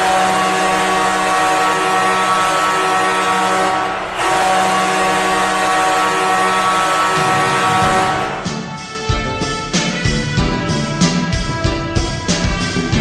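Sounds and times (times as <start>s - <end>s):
goal horn blast: 0.0s - 13.0s.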